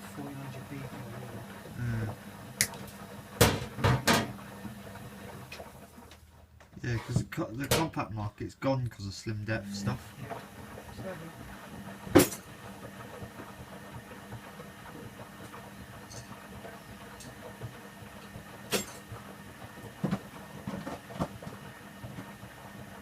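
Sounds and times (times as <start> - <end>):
washing machine humming: 0.0 - 23.0.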